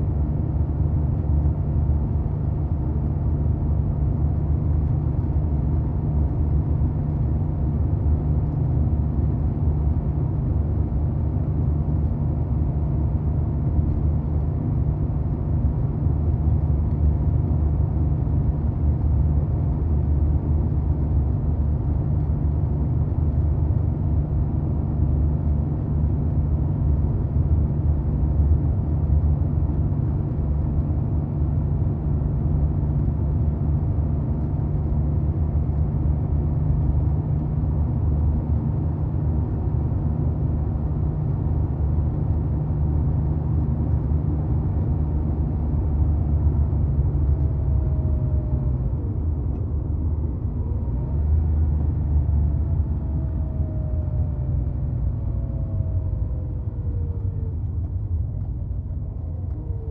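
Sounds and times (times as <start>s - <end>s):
car engine running steadily: 0.0s - 59.9s.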